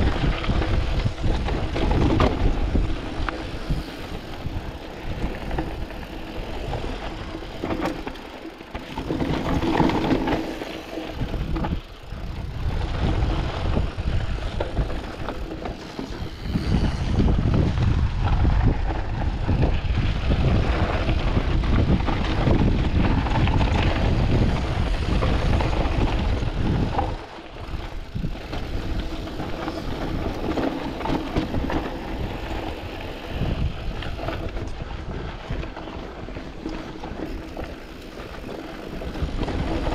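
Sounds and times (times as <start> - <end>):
bike rattling over bumps: 0.0 - 39.9
tyres crunching over gravel: 0.0 - 39.9.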